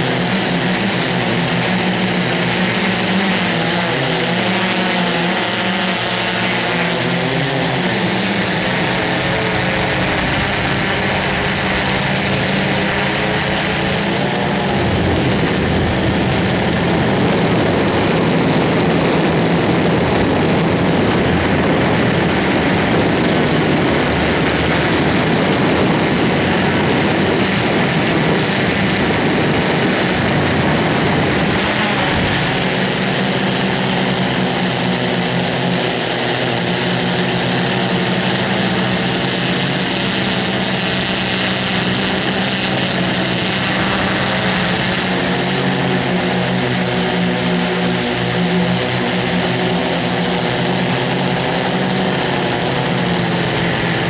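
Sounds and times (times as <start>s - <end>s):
motor with wavering pitch: 0.0s - 54.0s
loud rushing noise: 5.2s - 54.0s.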